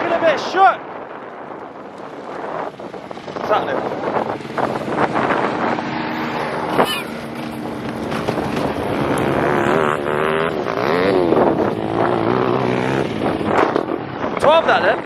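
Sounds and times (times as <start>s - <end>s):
engine running and revving: 1.0s - 15.0s.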